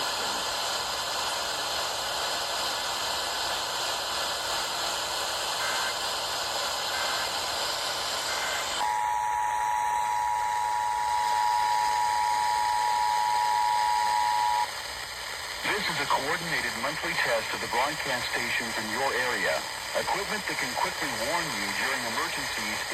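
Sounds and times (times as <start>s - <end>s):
radio static hiss: 0.0s - 22.9s.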